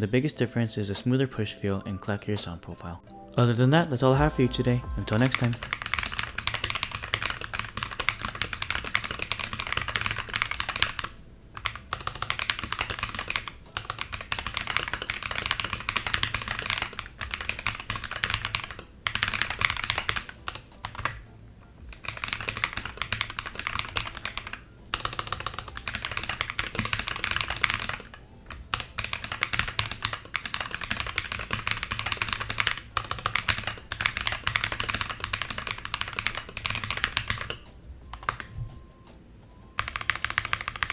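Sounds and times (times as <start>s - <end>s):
typing on mechanical keyboard: 5.2s - 21.2s, 21.8s - 38.6s, 39.8s - 40.9s.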